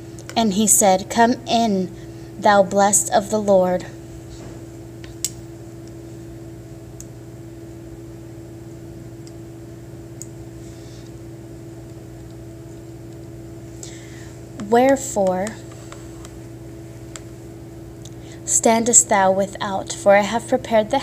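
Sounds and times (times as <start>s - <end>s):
steady multi-pitch hum: 0.0s - 21.0s.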